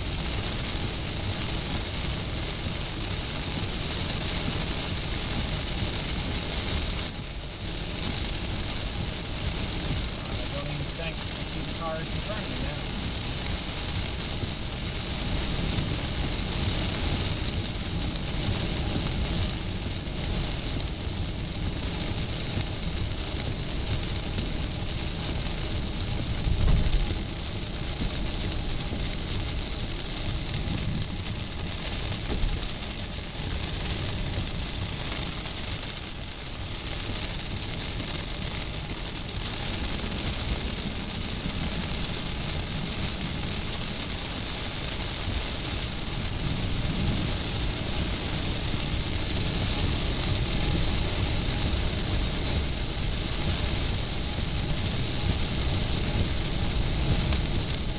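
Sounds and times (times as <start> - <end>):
heavy rain on car roof: 0.0 - 57.9
low rumble: 0.0 - 57.9
road and engine noise: 0.0 - 57.9.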